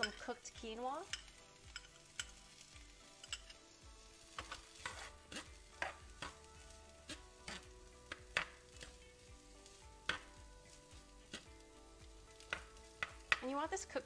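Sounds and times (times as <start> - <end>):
utensil scraping frying pan: 0.0 - 13.6
faint sizzle: 0.0 - 14.0.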